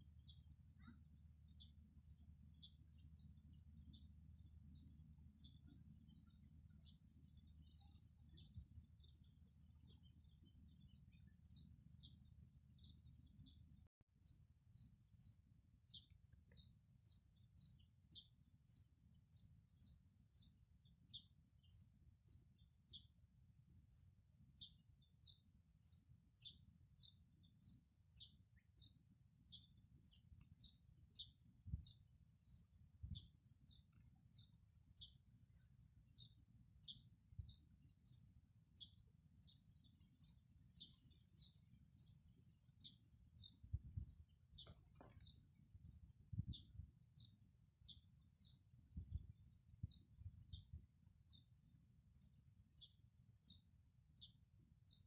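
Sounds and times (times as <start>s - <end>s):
small bird chirping: 0.0s - 23.2s, 23.8s - 55.0s.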